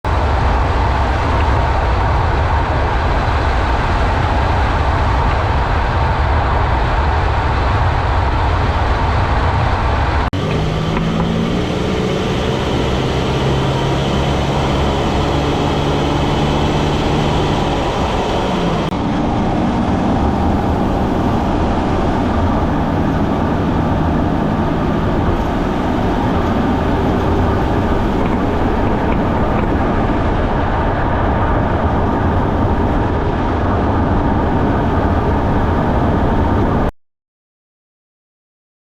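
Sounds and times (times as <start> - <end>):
car road noise: 0.0 - 36.9.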